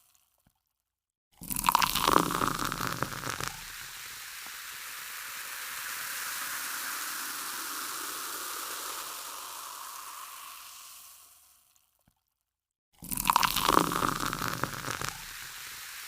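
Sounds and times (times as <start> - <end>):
soda water fizzing: 1.4 - 11.8, 13.0 - 16.0.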